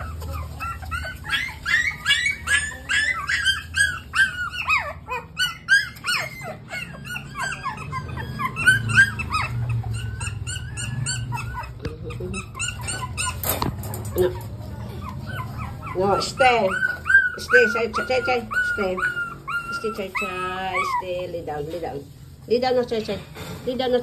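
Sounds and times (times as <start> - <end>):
puppies whining: 0.0 - 22.0.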